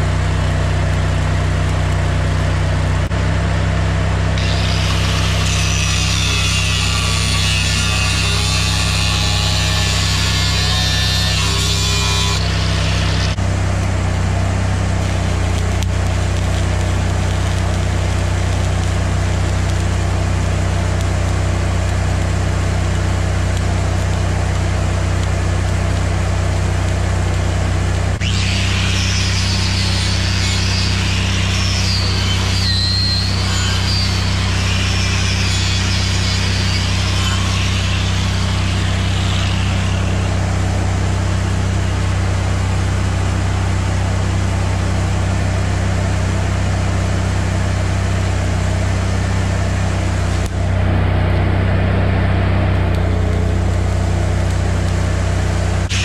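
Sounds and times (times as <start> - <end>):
low drone: 0.0 - 56.0
welder crackling: 0.0 - 56.0
angle grinder grinding: 4.3 - 56.0.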